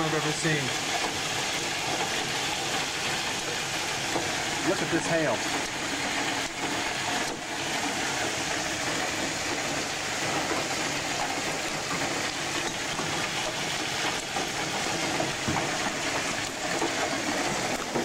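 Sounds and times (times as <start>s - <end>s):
hailstones knocking: 0.0s - 18.0s
heavy hail and rain: 0.0s - 18.0s.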